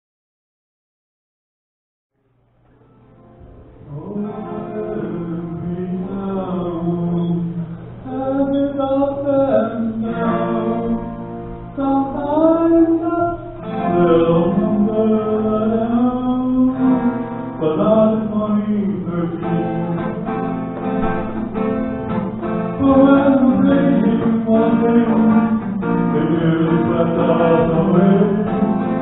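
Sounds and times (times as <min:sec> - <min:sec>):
acoustic guitar strumming: 0:02.4 - 0:29.0
man singing: 0:03.8 - 0:21.3, 0:22.0 - 0:29.0.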